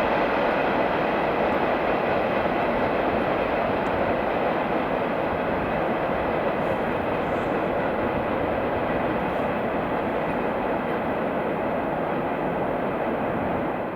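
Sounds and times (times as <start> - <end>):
freight train wheels rumbling: 0.0 - 13.9.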